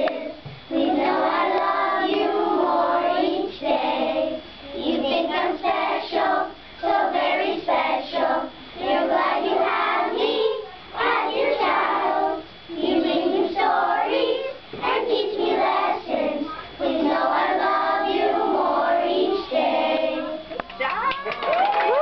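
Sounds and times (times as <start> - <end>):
children singing together: 0.0 - 20.5.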